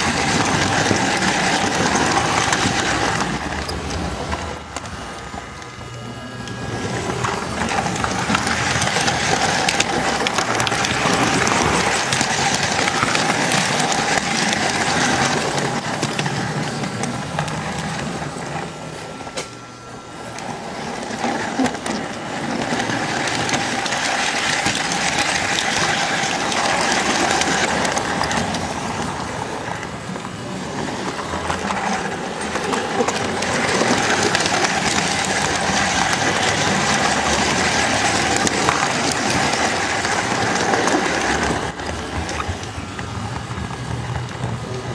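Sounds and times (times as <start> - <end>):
model train motor whirring: 0.0 - 44.9
wheels rattling over track: 0.0 - 44.9.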